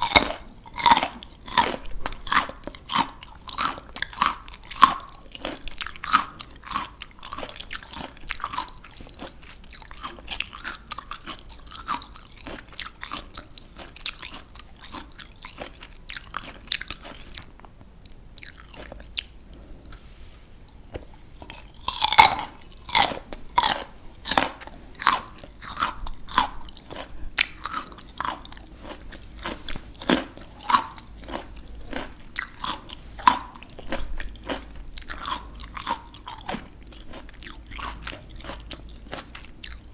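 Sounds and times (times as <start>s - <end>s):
raw vegetables crunching: 0.0s - 20.1s, 20.7s - 39.9s.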